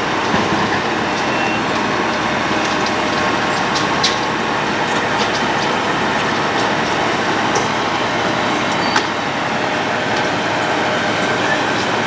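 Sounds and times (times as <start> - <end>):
road planer grinding: 0.0 - 12.0.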